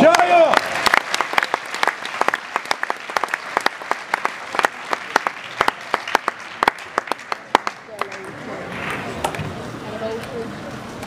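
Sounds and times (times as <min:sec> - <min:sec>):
scattered applause: 0:00.0 - 0:09.4.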